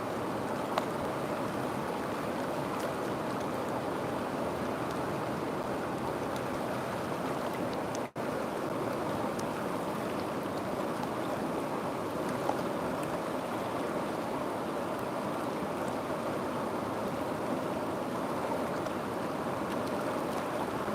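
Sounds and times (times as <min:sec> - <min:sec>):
river water rushing: 0:00.0 - 0:20.9.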